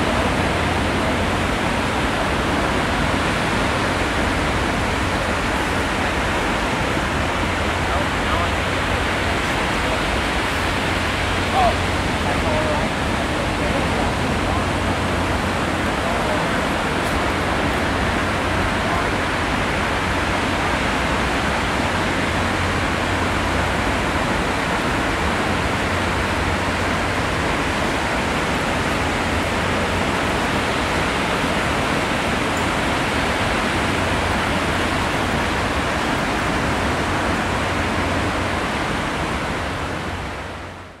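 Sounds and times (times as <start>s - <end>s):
ocean surf washing onto beach: 0.0s - 41.0s.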